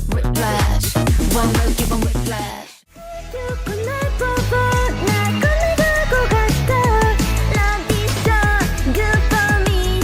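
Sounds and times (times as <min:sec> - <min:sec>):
electronic synth music with bass: 0:00.0 - 0:10.0.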